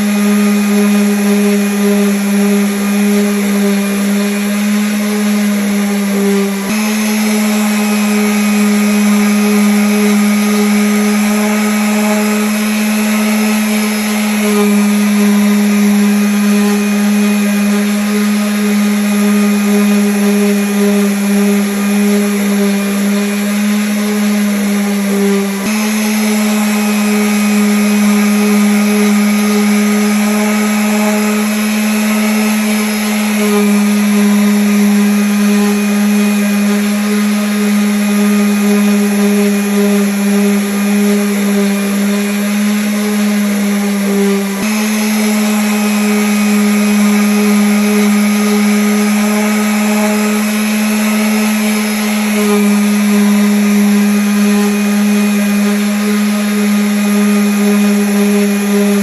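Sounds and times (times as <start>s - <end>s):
electric sander on wood: 0.0s - 59.0s.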